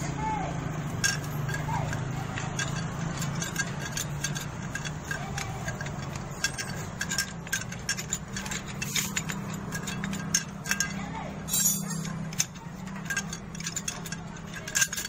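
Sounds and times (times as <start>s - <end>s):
metal clicks and clinks: 0.6s - 15.0s.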